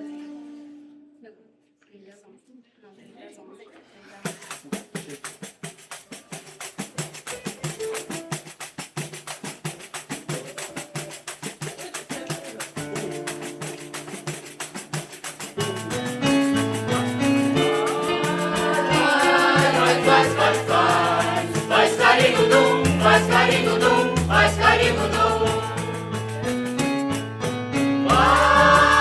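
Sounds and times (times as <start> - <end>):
fast percussion rhythm: 4.2 - 29.0.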